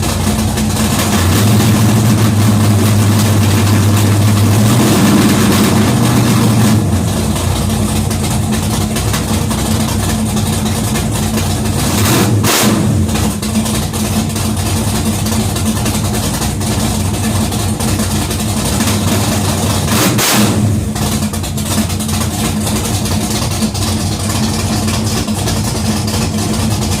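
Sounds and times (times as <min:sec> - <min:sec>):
car engine rumbling: 0:00.0 - 0:27.0.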